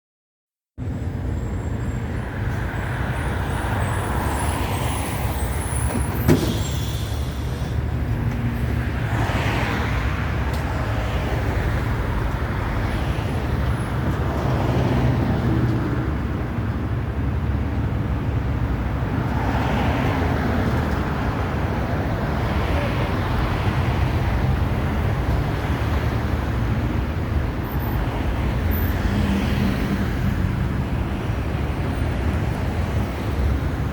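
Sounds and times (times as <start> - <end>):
bus engine and road rumble: 0.8 - 33.9.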